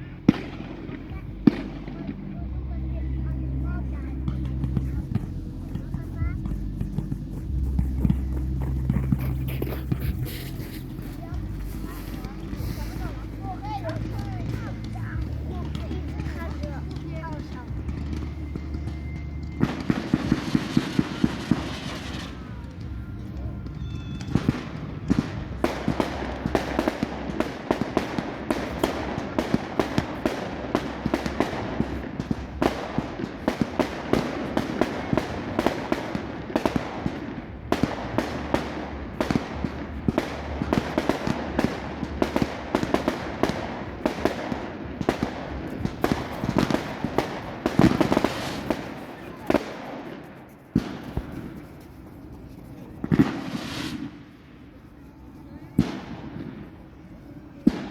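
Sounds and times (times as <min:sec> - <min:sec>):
fireworks cracking: 0:00.0 - 0:54.7, 0:55.7 - 0:56.8, 0:57.6 - 0:57.9
fireworks bangs: 0:00.0 - 0:54.8, 0:55.5 - 0:57.0, 0:57.6 - 0:57.9
fireworks crackling pops: 0:00.0 - 0:56.8, 0:57.6 - 0:57.9.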